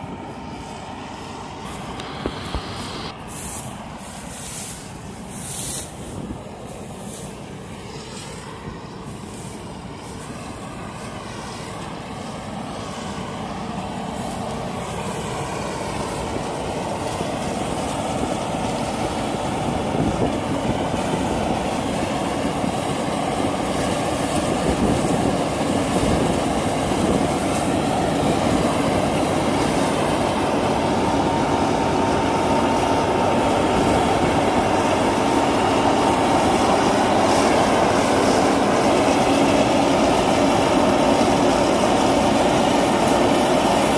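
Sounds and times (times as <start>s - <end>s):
combine harvester droning: 0.0s - 43.9s
steady whine: 0.0s - 43.9s.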